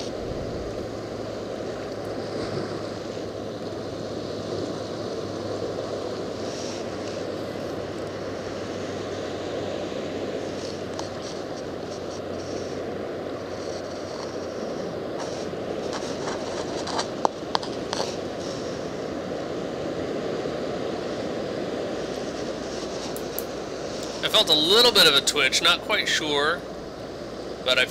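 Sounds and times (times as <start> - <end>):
surf: 0.0 - 27.9
wind: 0.0 - 27.9.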